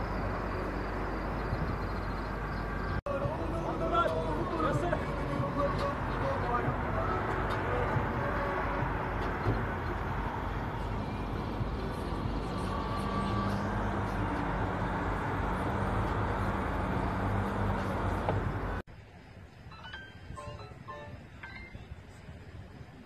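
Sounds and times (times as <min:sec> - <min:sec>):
vehicle engine running: 0:00.0 - 0:18.8
outdoor noise: 0:00.0 - 0:23.0.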